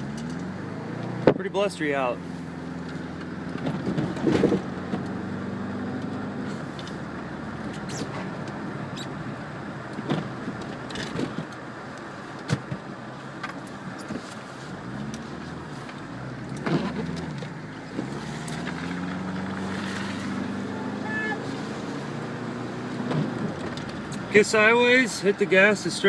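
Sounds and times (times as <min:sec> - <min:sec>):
car engine revving: 0:00.0 - 0:11.2, 0:14.7 - 0:25.6
road and tyre noise: 0:00.0 - 0:26.0.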